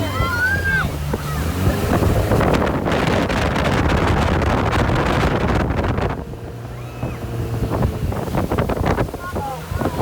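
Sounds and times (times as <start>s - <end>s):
boat engine humming: 0.0s - 10.0s
water noise: 0.0s - 10.0s
wind buffeting microphone: 0.0s - 10.0s.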